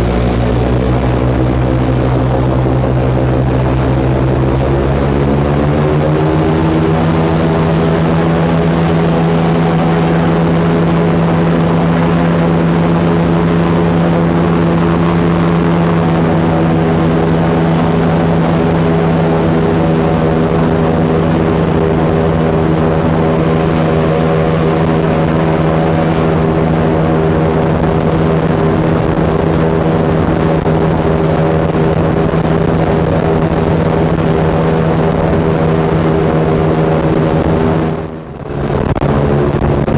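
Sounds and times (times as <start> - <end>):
airboat engine and propeller: 0.0 - 39.9.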